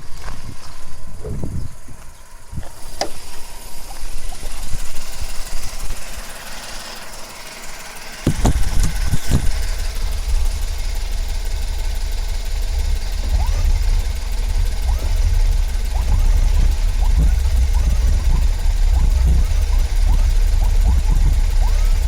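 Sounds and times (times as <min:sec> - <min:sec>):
car engine starting and running: 0:00.1 - 0:22.0
mechanical noise with sharp clicks: 0:02.0 - 0:22.0.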